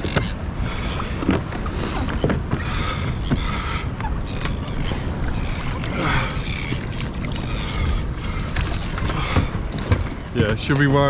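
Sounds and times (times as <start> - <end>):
water sloshing around kayak: 0.0 - 11.0
wind rumble on microphone: 0.0 - 11.0.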